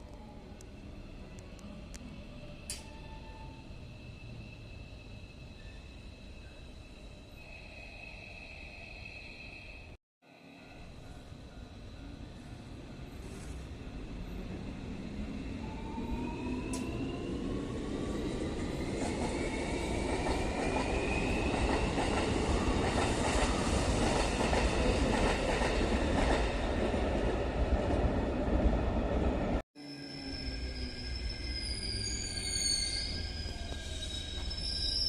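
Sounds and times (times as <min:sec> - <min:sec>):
electric train rumble: 0:00.0 - 0:09.9, 0:10.6 - 0:35.0.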